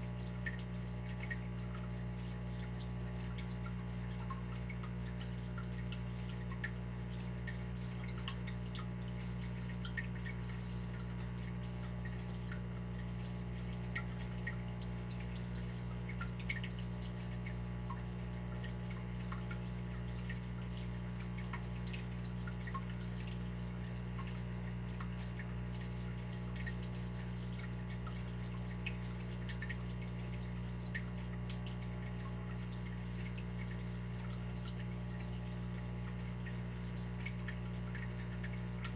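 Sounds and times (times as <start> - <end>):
water dripping: 0.1 - 38.9.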